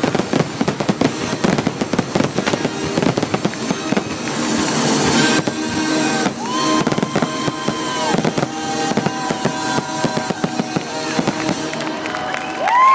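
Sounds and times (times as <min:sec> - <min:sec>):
fireworks bangs and crackling: 0:00.0 - 0:12.9
fireworks whistling: 0:00.0 - 0:12.9.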